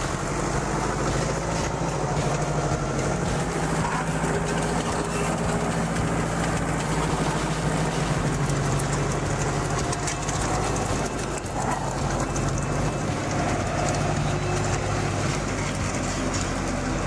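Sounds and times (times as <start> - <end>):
heavy vehicle engine droning: 0.0 - 17.0.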